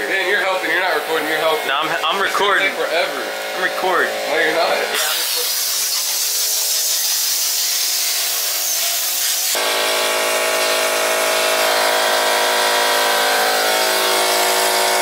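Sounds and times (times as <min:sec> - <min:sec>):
motor buzz: 0:00.5 - 0:15.0.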